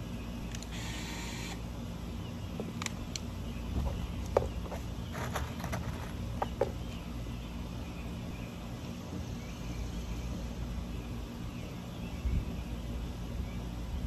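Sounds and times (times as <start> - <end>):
low outdoor background rumble: 0.0 - 14.0.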